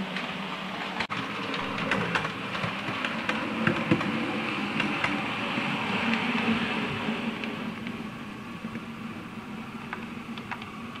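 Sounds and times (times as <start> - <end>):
model train running: 0.0 - 11.0
wheels clicking over rail joints: 0.1 - 8.9.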